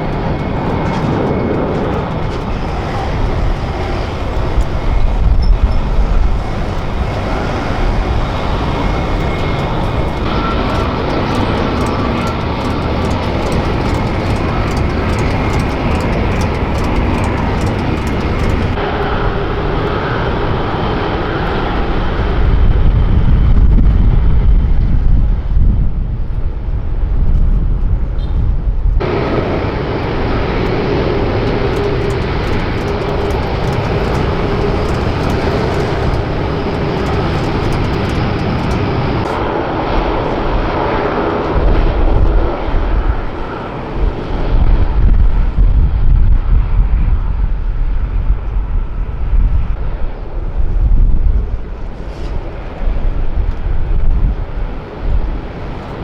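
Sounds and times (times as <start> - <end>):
jet engines roaring: 0.0 - 27.2, 29.0 - 56.0.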